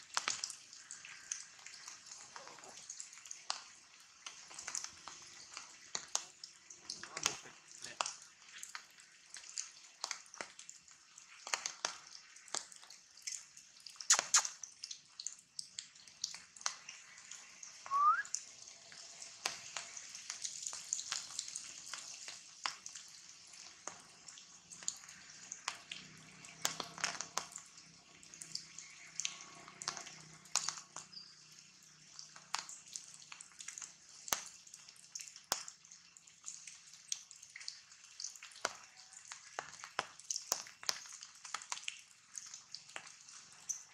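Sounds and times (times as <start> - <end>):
rain dripping on leaves: 0.0 - 43.9.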